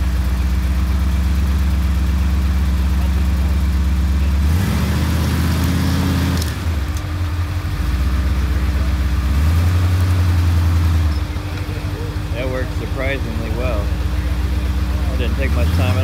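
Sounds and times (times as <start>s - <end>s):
car engine working under load: 0.0s - 16.0s.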